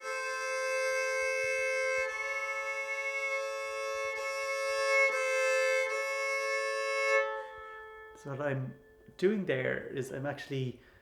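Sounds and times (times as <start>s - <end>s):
fiddle bowed in double stops: 0.0s - 9.1s.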